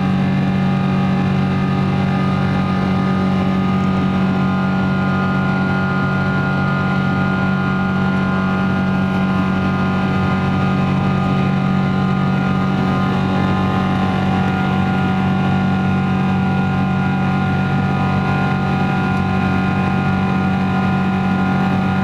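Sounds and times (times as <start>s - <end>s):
jet engines droning in cabin: 0.0s - 22.0s.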